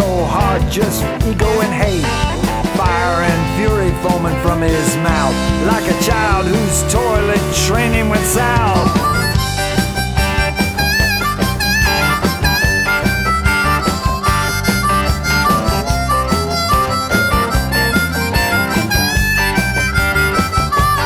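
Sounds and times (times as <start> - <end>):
bass: 0.0 - 21.0
drums keeping a steady beat: 0.0 - 21.0
harmonica solo: 1.9 - 21.0.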